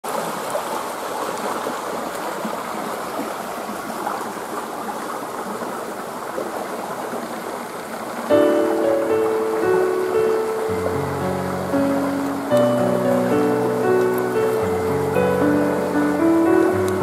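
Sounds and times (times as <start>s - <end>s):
stream flowing over stones: 0.0s - 17.0s.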